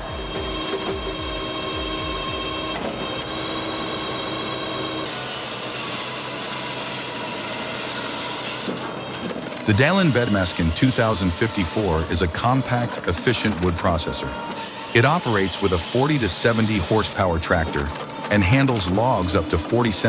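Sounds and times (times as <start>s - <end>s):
machine noise: 0.0s - 20.0s
power saw cutting wood: 0.0s - 20.0s.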